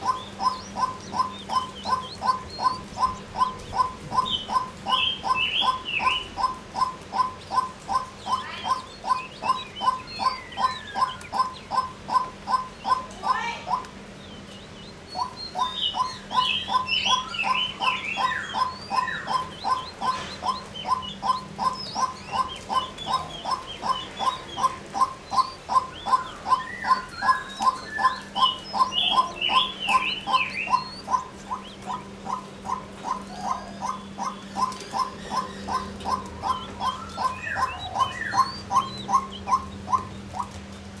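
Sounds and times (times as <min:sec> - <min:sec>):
high twittering chirps: 0:00.0 - 0:40.6.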